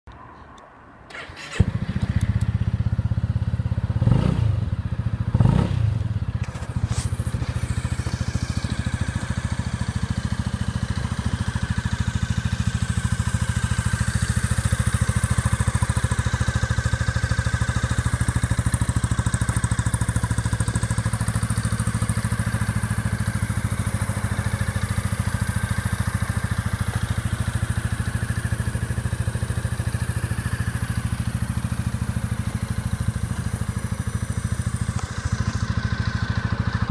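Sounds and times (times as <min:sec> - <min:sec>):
scooter engine starting and idling: 0:01.1 - 0:36.9.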